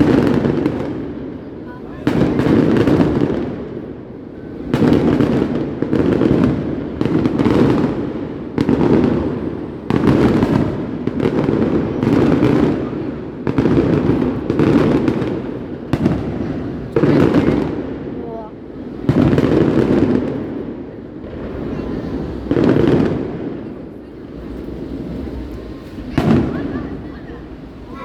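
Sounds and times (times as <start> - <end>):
fireworks banging: 0.0 - 28.0.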